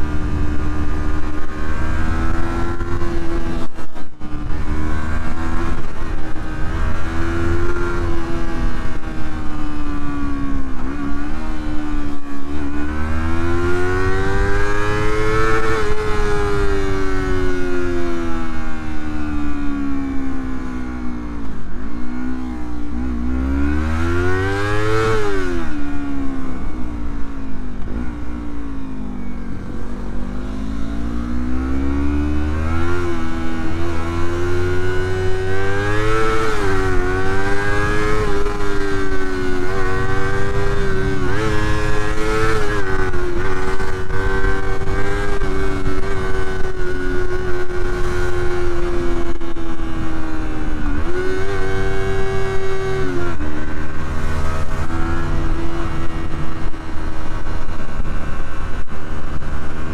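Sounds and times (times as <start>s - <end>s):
motorcycle engine revving: 0.0s - 59.9s
wind rumble on microphone: 0.0s - 59.9s.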